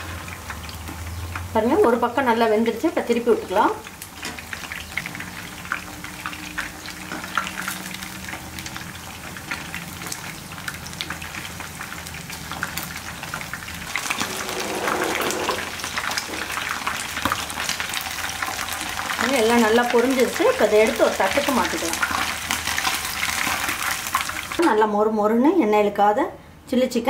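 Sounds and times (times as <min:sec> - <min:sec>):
chicken deep-frying in hot oil: 0:00.0 - 0:24.8.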